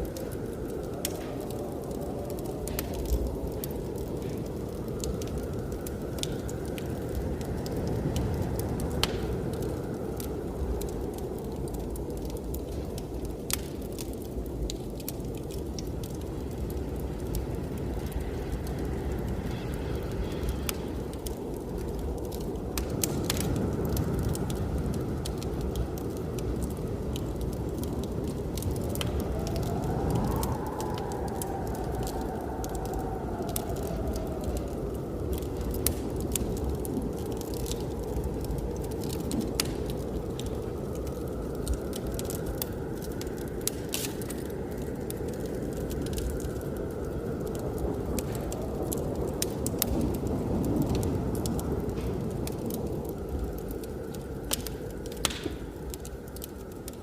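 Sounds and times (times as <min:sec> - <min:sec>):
blizzard wind rumbling: 0:00.0 - 0:57.0
wind howling: 0:00.0 - 0:57.0
wood fire crackling and popping: 0:00.0 - 0:57.0.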